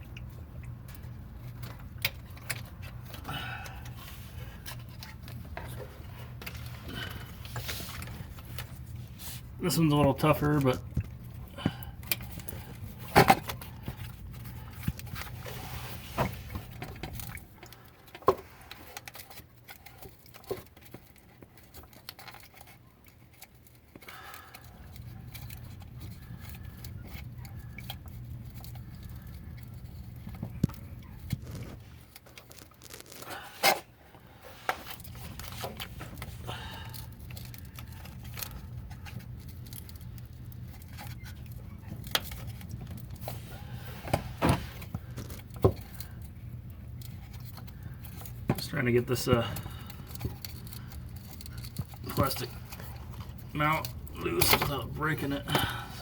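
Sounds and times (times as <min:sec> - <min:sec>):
hands working plastic clips: 0:00.0 - 0:56.0
low steady hum: 0:00.0 - 0:56.0.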